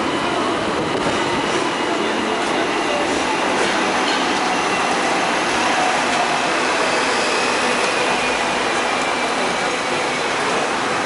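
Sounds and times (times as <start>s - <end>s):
tram rolling on tracks: 0.0s - 11.0s.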